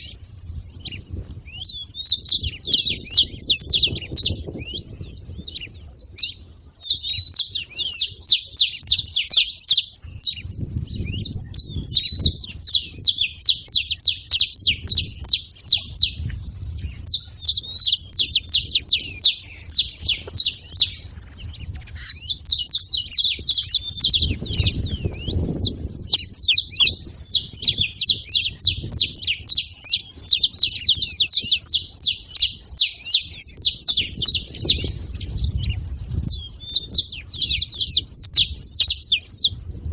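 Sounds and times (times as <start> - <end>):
flock of finches chattering: 0.7 - 39.5.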